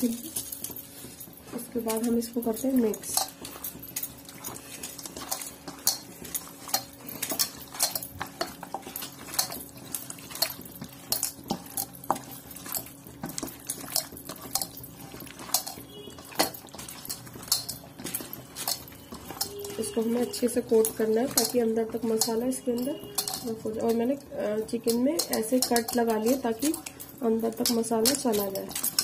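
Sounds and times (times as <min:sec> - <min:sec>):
hand mixing chicken in marinade: 0:00.0 - 0:29.0
clinks against steel bowl: 0:01.9 - 0:29.0.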